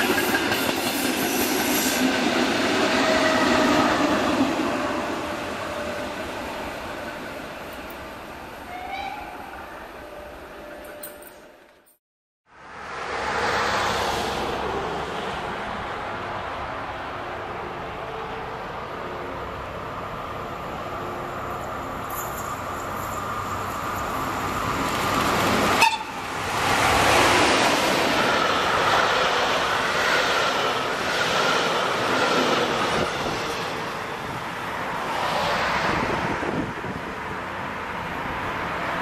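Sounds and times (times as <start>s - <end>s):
passenger train passing: 0.0s - 11.7s, 12.8s - 39.0s.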